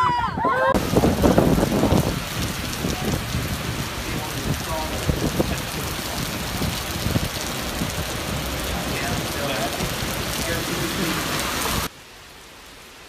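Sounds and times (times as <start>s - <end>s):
heavy rain pouring: 0.7s - 13.0s.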